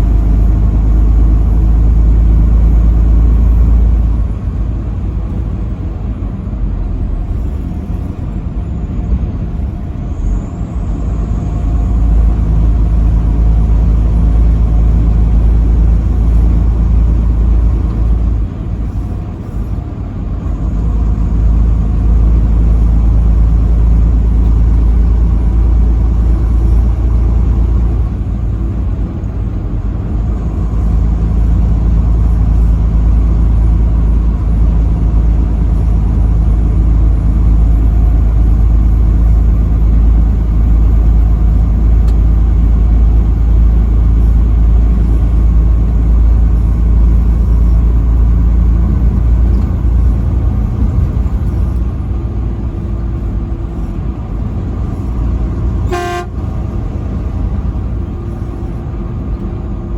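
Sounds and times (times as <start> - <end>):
tyre road noise: 0.0 - 59.9
vehicle engine rumble: 0.0 - 59.9.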